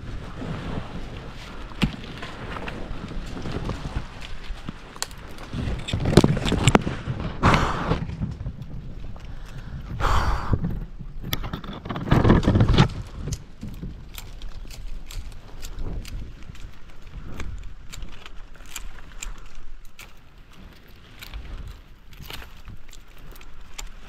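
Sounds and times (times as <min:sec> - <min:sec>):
dry leaves rustling and crunching: 0:00.0 - 0:07.3, 0:11.6 - 0:24.0.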